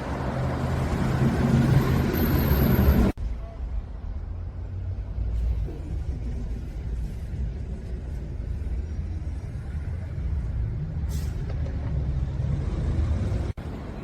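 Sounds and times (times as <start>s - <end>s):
street background rumble: 0.0s - 14.0s.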